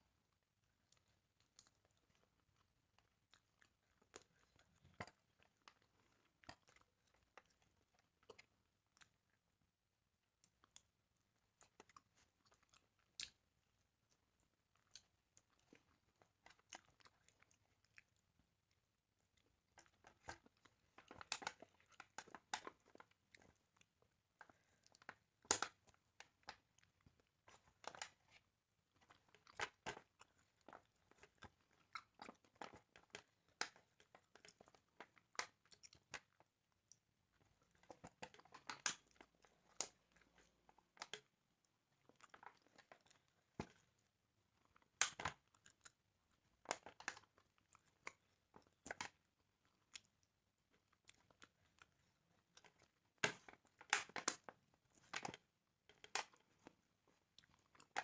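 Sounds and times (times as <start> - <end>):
person chewing and crunching: 0.8 - 9.4, 10.4 - 28.4, 29.0 - 41.3, 41.9 - 50.2, 50.9 - 58.0.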